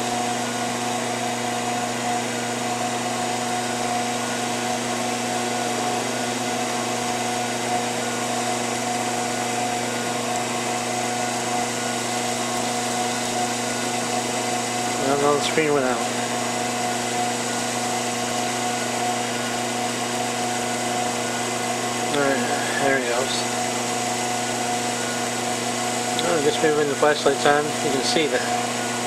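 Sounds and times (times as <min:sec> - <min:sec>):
treadmill motor humming: 0:00.0 - 0:29.0.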